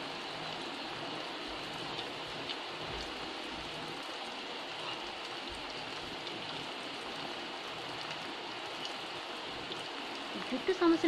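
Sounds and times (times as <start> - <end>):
oil sizzling and bubbling in a pot: 0.0 - 11.0.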